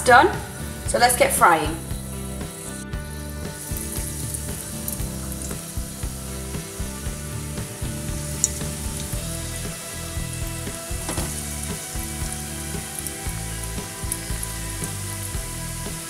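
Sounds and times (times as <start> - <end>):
food sizzling in hot oil: 0.1 - 16.0
oil bubbling hard: 1.8 - 16.0.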